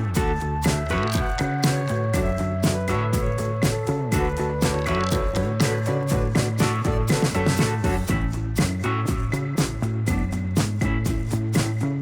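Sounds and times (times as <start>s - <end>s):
funk groove with bass and guitar: 0.0s - 12.0s.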